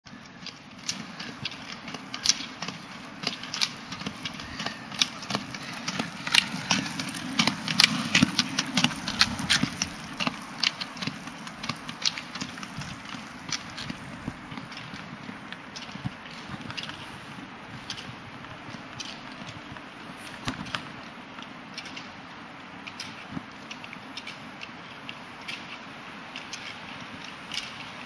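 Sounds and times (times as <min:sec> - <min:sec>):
ski poles clicking on pavement: 0:00.2 - 0:28.0
wheels rolling on wet asphalt: 0:00.4 - 0:28.0.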